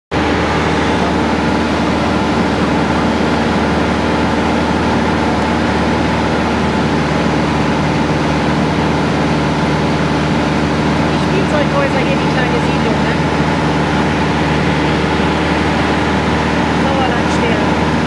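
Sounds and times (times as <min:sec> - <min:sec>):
propeller aircraft engine drone: 0:00.1 - 0:18.0.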